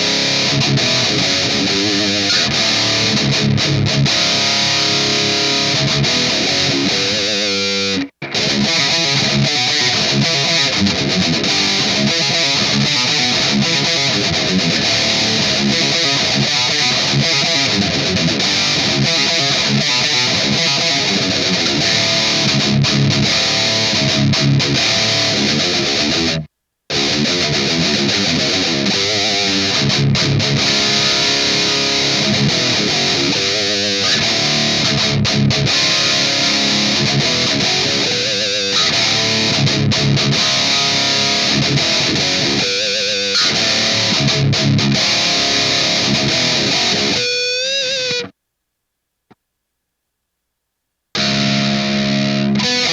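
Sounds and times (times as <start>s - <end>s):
distorted electric guitar riff: 0.0s - 48.4s, 51.1s - 52.9s.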